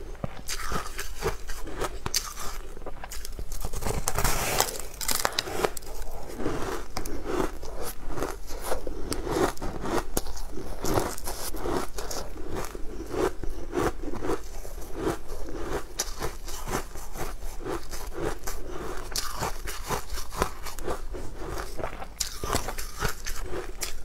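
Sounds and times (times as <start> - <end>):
chewing and crunching: 0.0 - 24.0.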